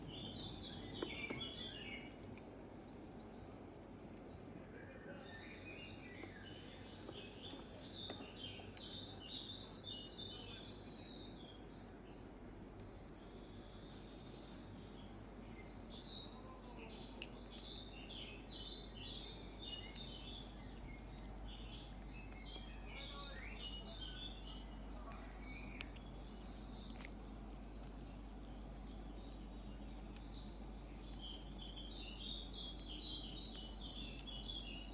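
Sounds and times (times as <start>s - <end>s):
low background rumble: 0.0s - 10.2s, 11.3s - 34.9s
small birds chirping: 0.0s - 34.9s.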